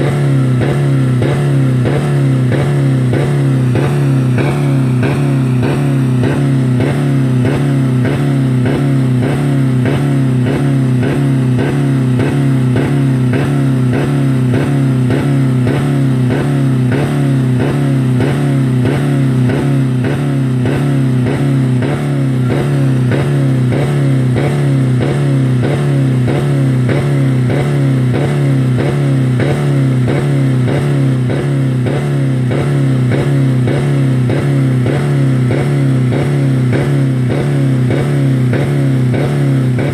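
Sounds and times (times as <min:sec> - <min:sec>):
car engine pulsing drone: 0:00.0 - 0:39.9.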